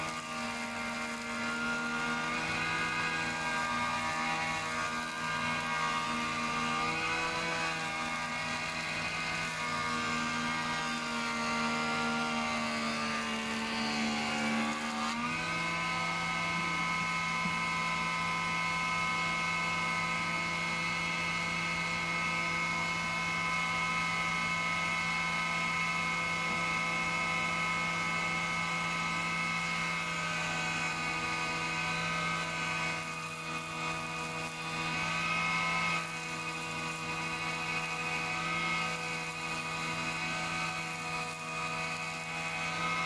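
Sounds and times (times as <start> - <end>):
planer whining: 0.0 - 43.0.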